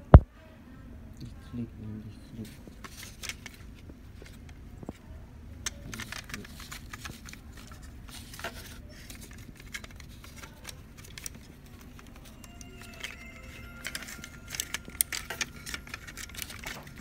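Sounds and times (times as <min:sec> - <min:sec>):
low steady hum: 0:00.0 - 0:17.0
plastic clicks and rustles: 0:02.4 - 0:17.0.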